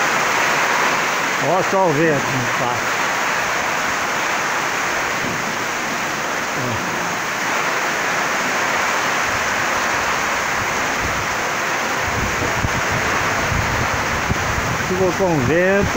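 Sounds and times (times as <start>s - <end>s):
heavy rain pouring: 0.0s - 15.9s
strong wind: 2.2s - 15.9s.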